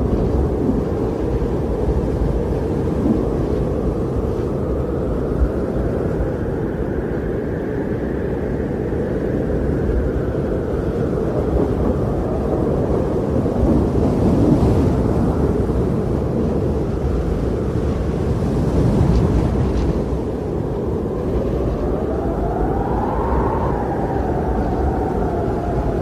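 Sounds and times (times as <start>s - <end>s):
wind blowing: 0.0s - 26.0s.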